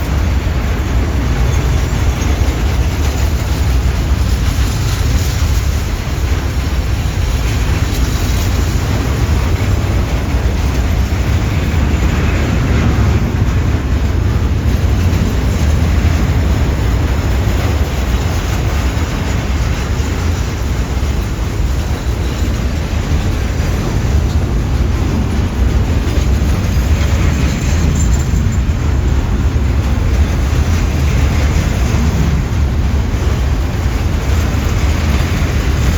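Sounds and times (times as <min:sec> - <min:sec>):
freight train wheels rumbling: 0:00.0 - 0:35.9
wind on microphone: 0:00.0 - 0:35.9.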